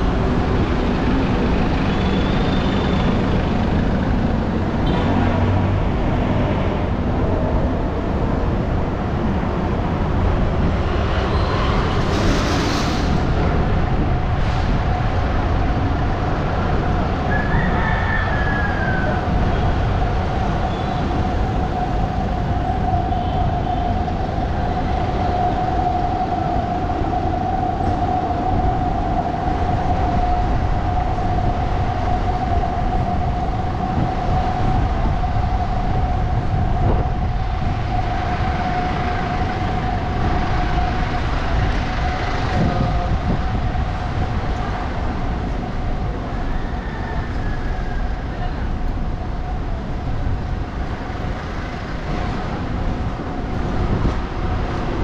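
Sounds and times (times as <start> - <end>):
low traffic rumble: 0.0 - 55.0.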